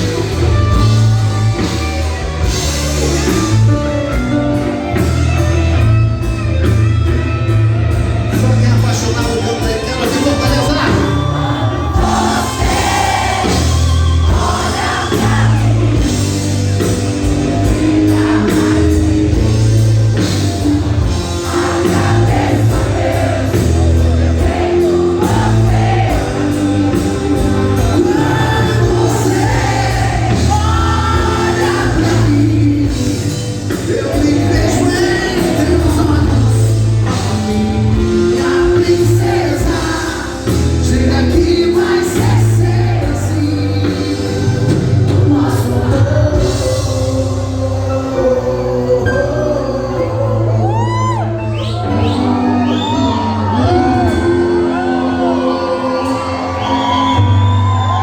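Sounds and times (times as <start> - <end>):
song with singing and band: 0.0 - 58.0.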